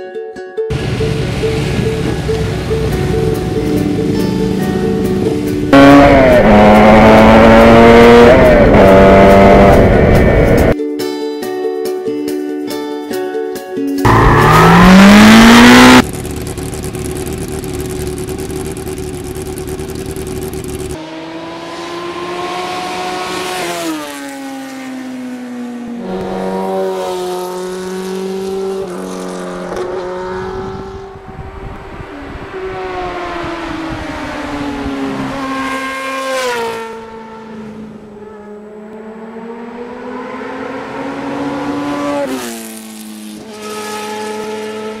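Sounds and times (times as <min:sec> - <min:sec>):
motorcycle engine accelerating: 0:00.7 - 0:10.8, 0:14.1 - 0:45.0.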